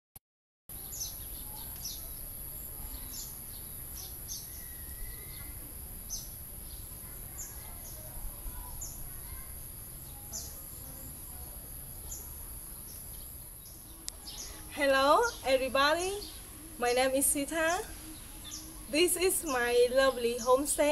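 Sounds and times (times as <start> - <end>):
small birds chirping: 0.7 - 20.9.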